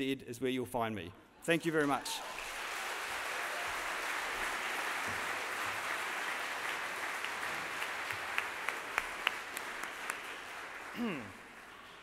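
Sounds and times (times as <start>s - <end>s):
audience applauding: 1.7s - 12.0s.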